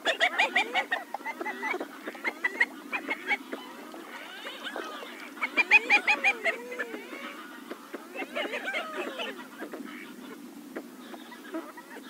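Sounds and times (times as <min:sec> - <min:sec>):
ducks calling: 0:00.0 - 0:12.0.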